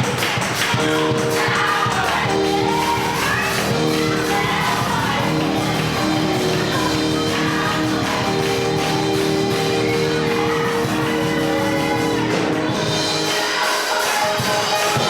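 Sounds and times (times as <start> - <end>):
drums: 0.0 - 15.0
guitar: 0.7 - 15.0
keyboard chords: 0.7 - 15.0.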